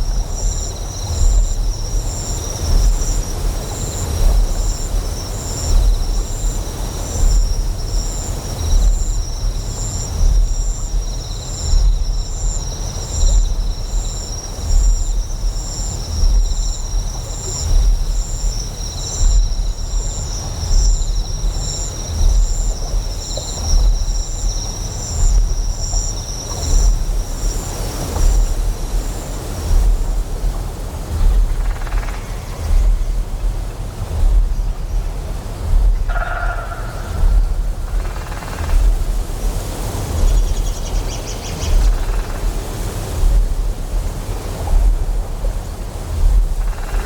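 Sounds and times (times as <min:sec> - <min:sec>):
insects chirping: 0:00.0 - 0:47.0
pulsing generator hum: 0:00.0 - 0:47.0.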